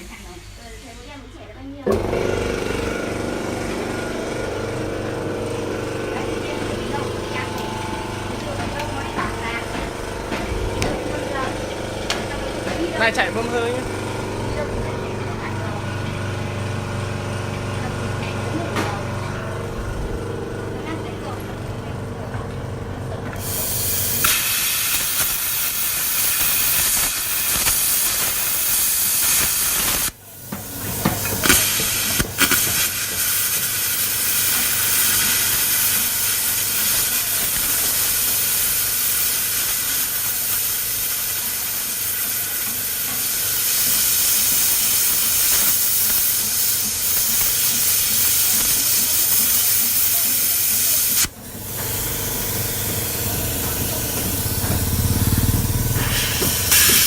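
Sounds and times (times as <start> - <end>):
compressed air hissing through torch: 3.9 - 20.2, 23.3 - 57.0.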